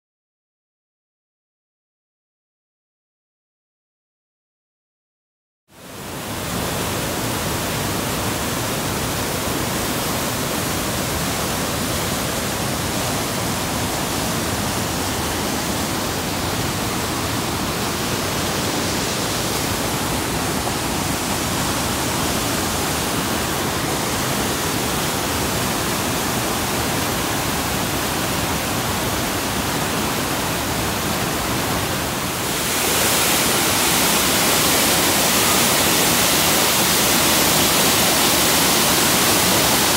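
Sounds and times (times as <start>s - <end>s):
waterfall roaring: 5.8s - 39.9s.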